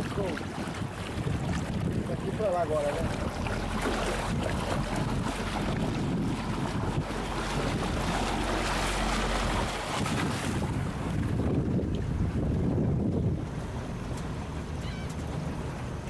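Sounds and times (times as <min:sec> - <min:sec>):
boat motor rumble: 0:00.0 - 0:16.0
water rushing and splashing: 0:00.0 - 0:16.0
wind buffeting microphone: 0:00.0 - 0:16.0.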